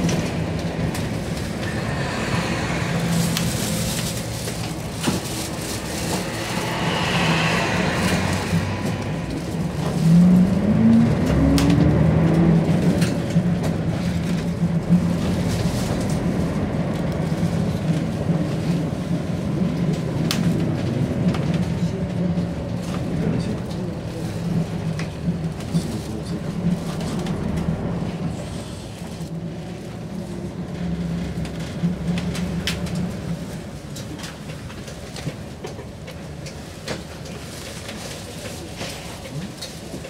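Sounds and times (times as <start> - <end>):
bus engine running: 0.0 - 40.0.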